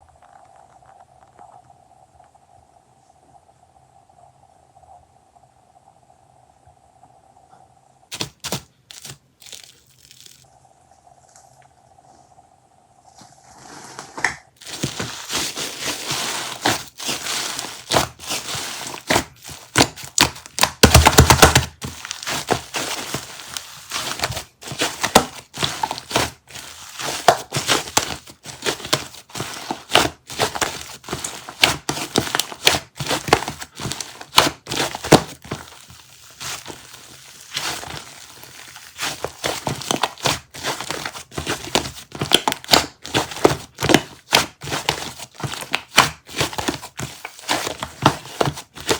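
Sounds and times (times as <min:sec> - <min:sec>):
crinkling and crackling: 0:00.0 - 0:02.4, 0:08.1 - 0:10.5, 0:13.2 - 0:48.9.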